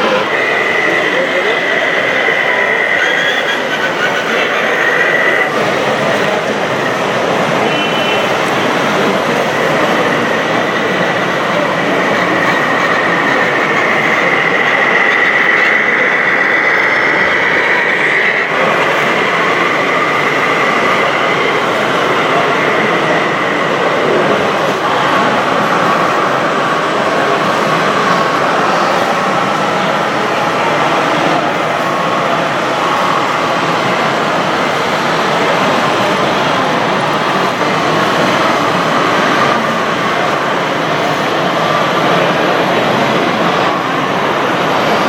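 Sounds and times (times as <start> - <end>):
exhibition hall noise: 0.0 - 45.0.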